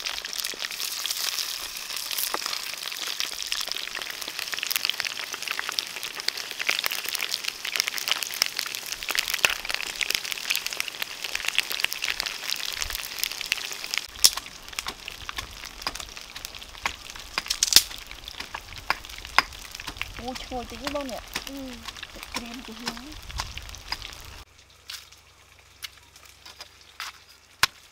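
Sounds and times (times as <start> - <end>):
fish sizzling in hot oil: 0.0 - 27.9.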